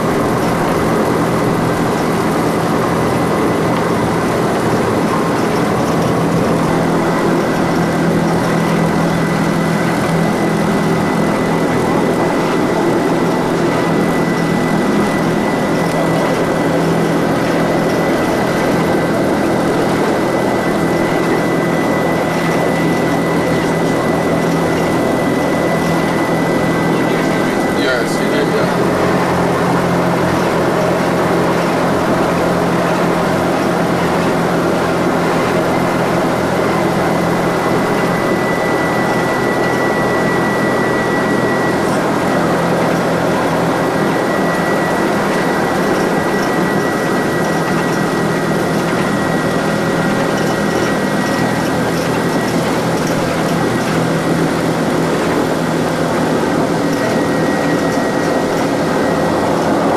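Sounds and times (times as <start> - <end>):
hovercraft turbine drone: 0.0 - 59.9.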